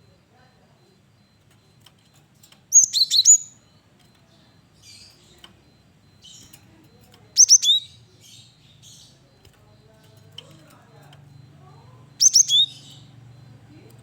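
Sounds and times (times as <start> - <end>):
faint bird twittering: 0.0 - 14.0.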